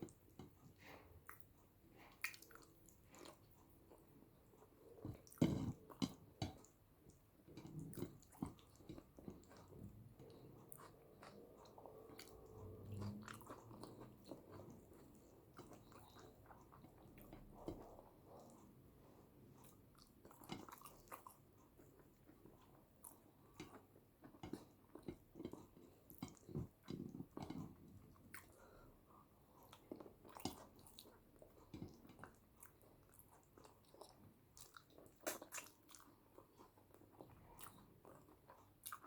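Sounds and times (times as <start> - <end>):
close-miked chewing: 0.0 - 39.0.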